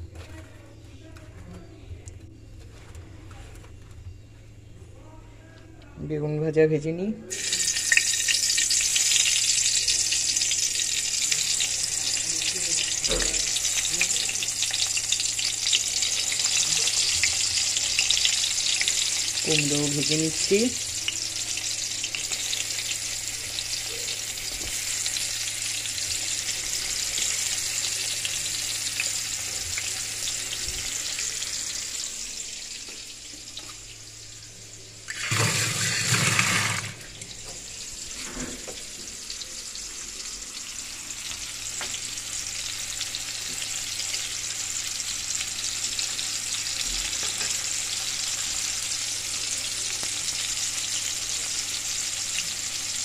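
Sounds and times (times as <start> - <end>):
food sizzling in hot oil: 7.3 - 53.0.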